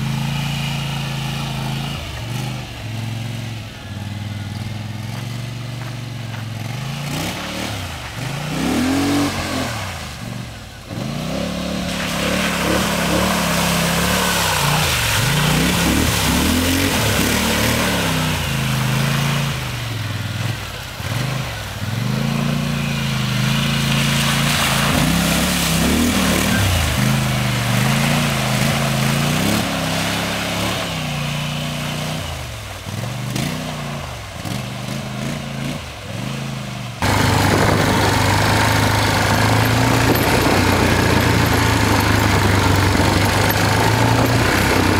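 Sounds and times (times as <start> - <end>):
muddy water splashing: 0.0 - 44.9
quad engine revving: 0.0 - 44.9.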